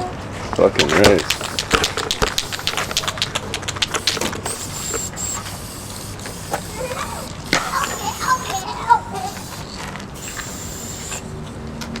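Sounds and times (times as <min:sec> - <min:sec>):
sharp click: 0:00.8 - 0:11.5
spray can ball rattling: 0:00.9 - 0:11.5.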